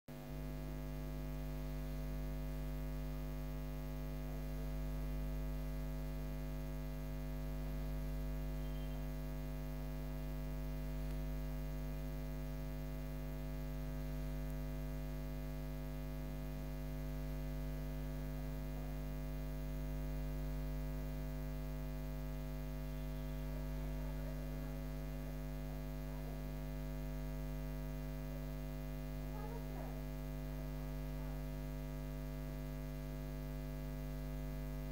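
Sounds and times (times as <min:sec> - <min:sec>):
electrical mains hum: 0:00.1 - 0:34.9.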